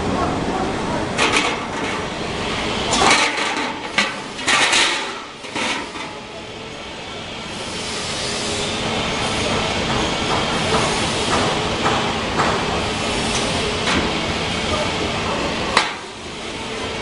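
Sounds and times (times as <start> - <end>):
welding machine hissing: 1.8 - 17.0.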